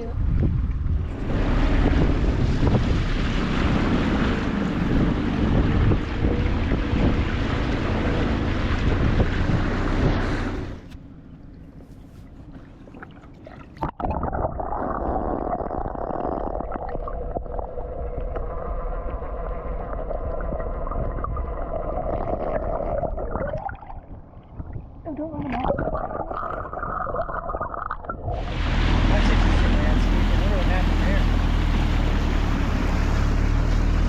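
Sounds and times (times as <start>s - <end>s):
gurgling water: 0.0s - 34.0s
muffled motor hum: 0.0s - 34.0s
rushing wind and water: 0.0s - 34.0s.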